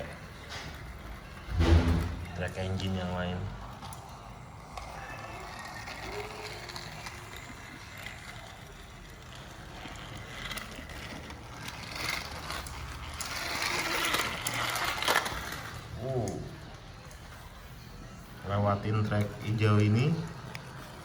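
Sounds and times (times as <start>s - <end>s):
wheels clicking on track: 0.0s - 17.4s
toy train motor whirring: 0.0s - 21.0s.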